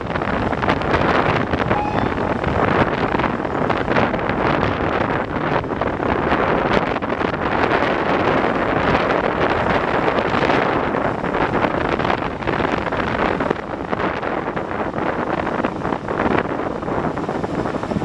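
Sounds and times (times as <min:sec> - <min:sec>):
train carriages running noise: 0:00.0 - 0:18.0
wind buffeting microphone: 0:00.0 - 0:18.0.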